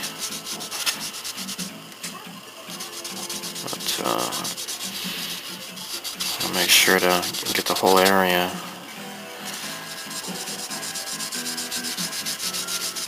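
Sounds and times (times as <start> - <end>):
sandpaper rubbing on plastic: 0.0 - 1.6, 2.7 - 8.4, 9.5 - 13.0.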